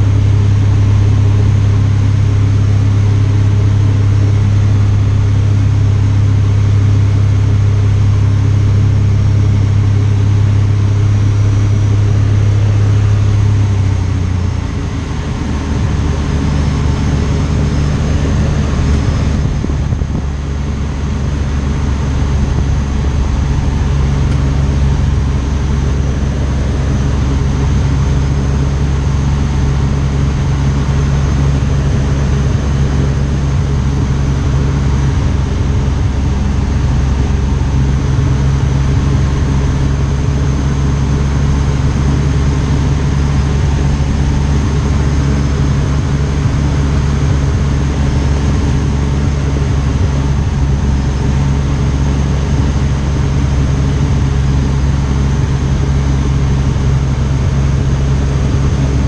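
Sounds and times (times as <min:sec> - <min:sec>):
propeller plane engine droning: 0:00.0 - 0:59.0
rushing air noise: 0:11.1 - 0:59.0.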